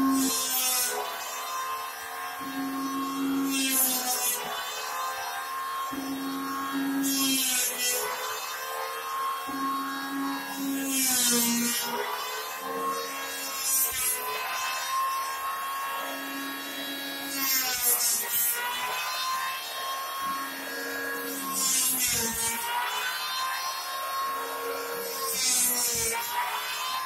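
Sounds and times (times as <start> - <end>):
electric planer cutting wood: 0.0 - 27.0.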